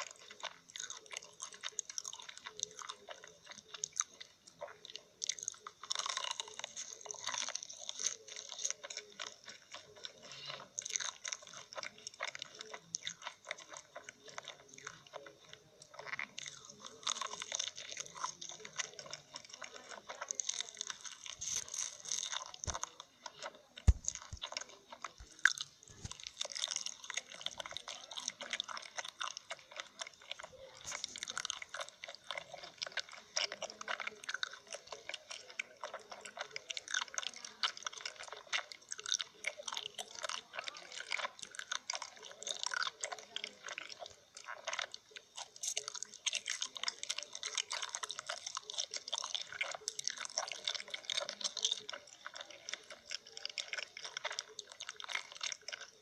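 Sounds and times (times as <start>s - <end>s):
crunchy chewing and biting: 0.0s - 56.0s.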